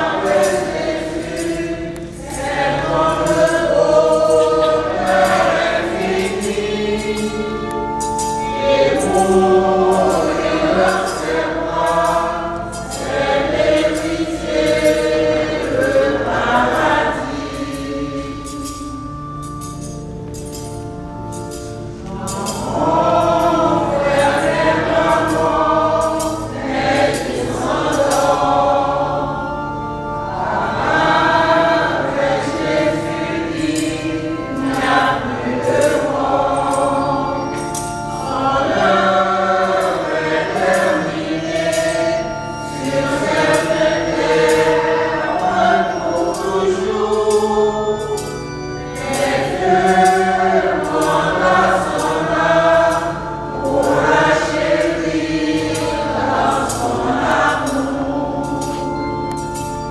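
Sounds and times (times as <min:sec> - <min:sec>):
church choir singing a hymn: 0:00.0 - 0:59.9.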